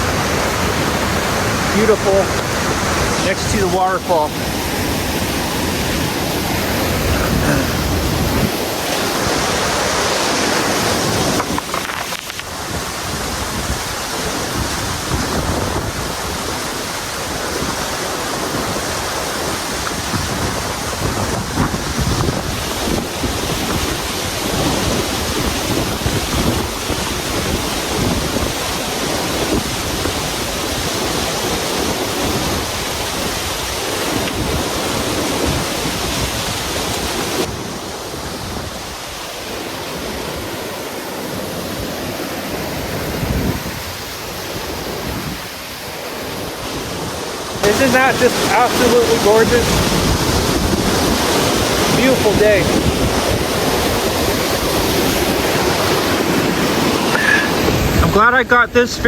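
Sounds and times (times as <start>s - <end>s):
waterfall rushing: 0.0s - 59.0s
wind buffeting microphone: 0.0s - 59.0s.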